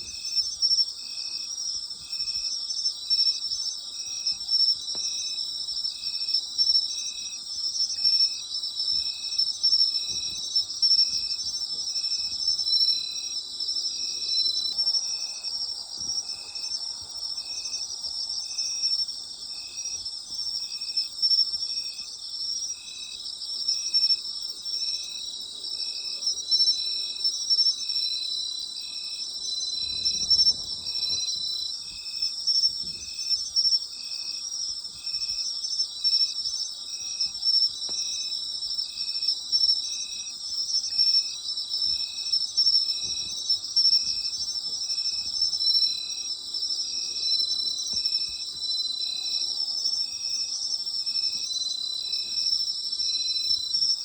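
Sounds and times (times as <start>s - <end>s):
insect chirping rhythmically: 0.0s - 54.0s
insects trilling: 0.1s - 54.0s.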